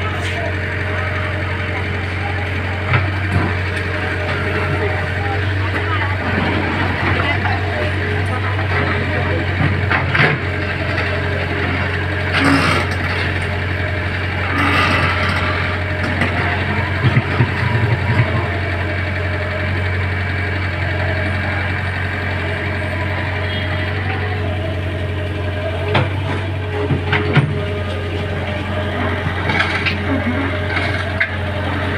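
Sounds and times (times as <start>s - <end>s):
construction machine engine humming: 0.0s - 31.9s.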